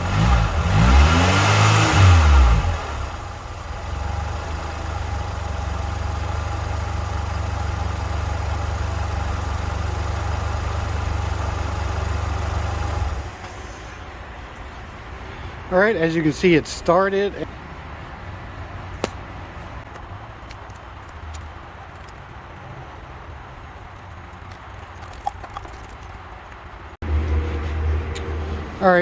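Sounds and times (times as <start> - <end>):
car engine revving and idling: 0.0 - 24.4, 27.0 - 29.0.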